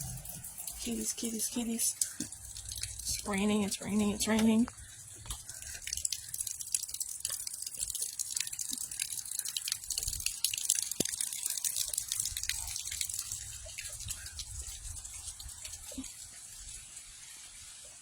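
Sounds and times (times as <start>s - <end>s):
steady rain patter: 0.0s - 18.0s.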